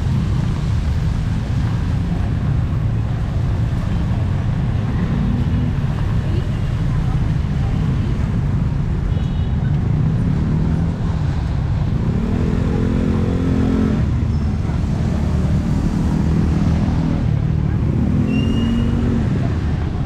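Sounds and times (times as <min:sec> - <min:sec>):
vehicle engines running: 0:00.0 - 0:20.0.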